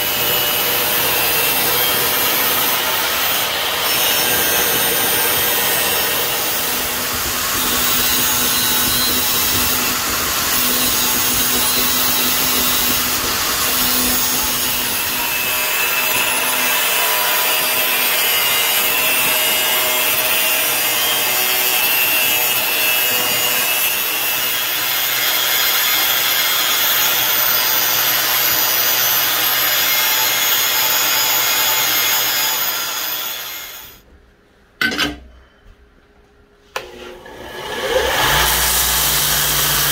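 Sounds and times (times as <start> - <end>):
angle grinder cutting steel: 0.0 - 34.0, 37.2 - 39.9.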